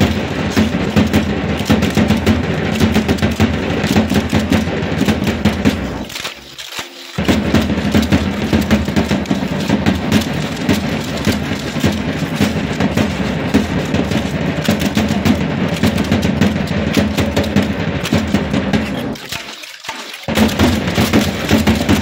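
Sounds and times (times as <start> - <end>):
drum beating fast rhythm: 0.0 - 22.0
stamping feet: 0.0 - 22.0.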